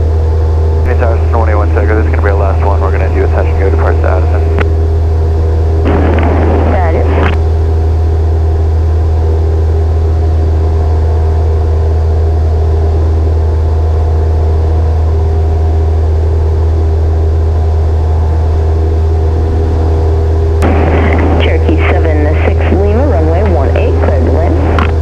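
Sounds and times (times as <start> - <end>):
propeller aircraft engine droning: 0.0 - 25.0.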